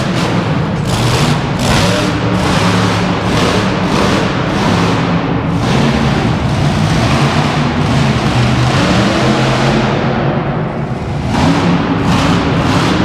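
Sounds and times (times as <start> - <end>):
truck engines revving loudly: 0.0 - 13.0.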